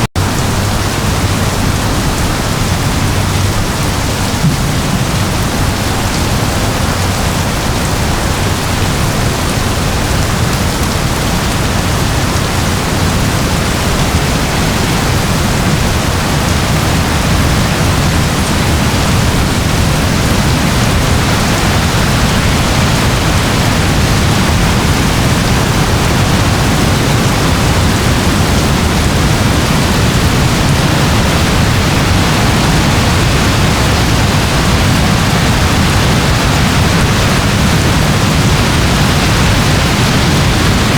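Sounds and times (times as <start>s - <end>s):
steady rain hiss: 0.2s - 40.9s.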